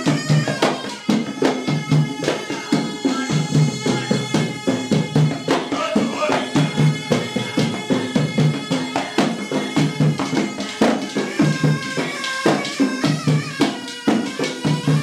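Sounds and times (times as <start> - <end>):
hand-beaten barrel drums: 0.0 - 15.0
reed pipe melody: 0.0 - 15.0.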